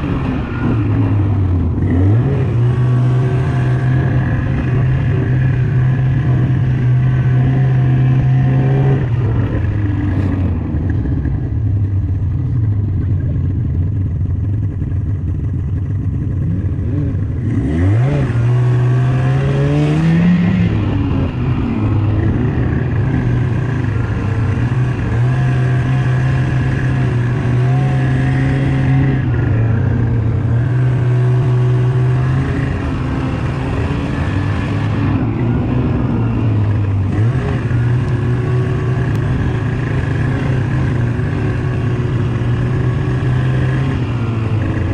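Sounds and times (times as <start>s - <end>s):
snowmobile engine revving: 0.0s - 10.5s, 16.4s - 44.9s.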